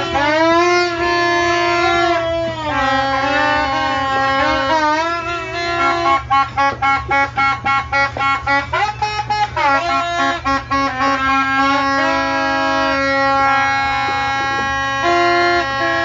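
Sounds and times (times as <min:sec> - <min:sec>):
horns blowing held notes: 0:00.0 - 0:16.0
short horn blasts: 0:00.0 - 0:16.0.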